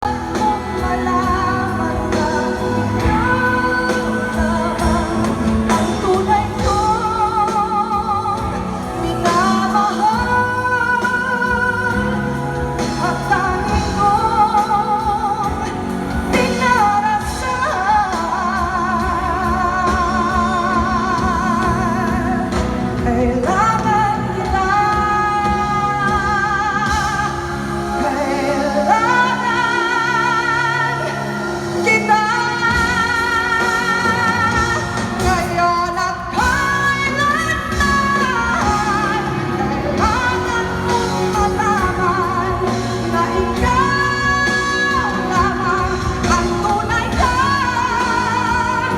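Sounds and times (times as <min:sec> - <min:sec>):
woman singing pop ballad: 0:00.0 - 0:48.9.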